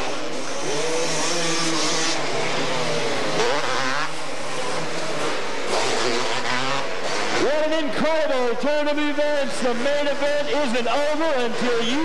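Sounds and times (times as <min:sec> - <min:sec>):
two-stroke engines revving: 0:00.0 - 0:12.0.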